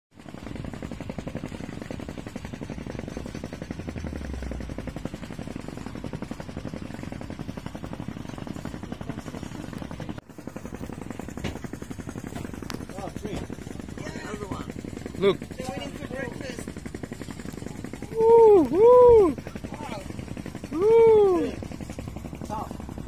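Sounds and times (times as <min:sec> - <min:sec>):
boat engine running: 0:00.2 - 0:23.0.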